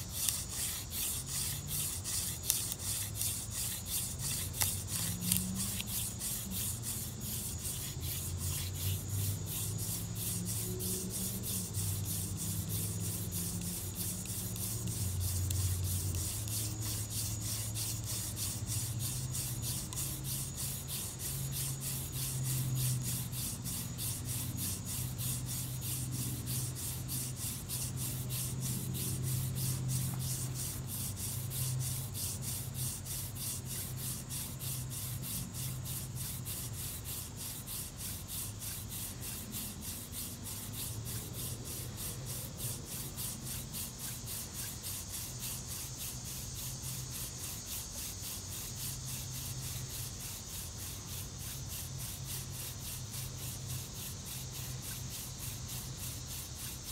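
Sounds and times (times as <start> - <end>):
hand drill rubbing on wood: 0.0 - 56.9
steady low hum: 0.0 - 56.9.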